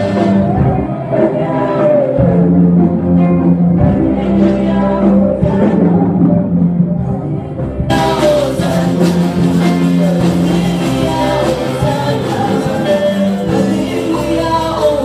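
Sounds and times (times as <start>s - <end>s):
people singing into microphones: 0.0s - 15.0s
worship band playing: 0.0s - 15.0s.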